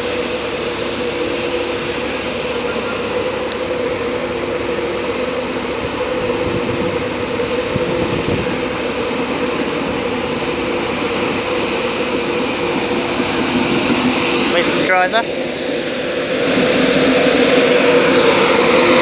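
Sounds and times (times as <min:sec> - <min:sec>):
electric locomotive hum: 0:00.0 - 0:19.0
train rumble: 0:00.0 - 0:19.0.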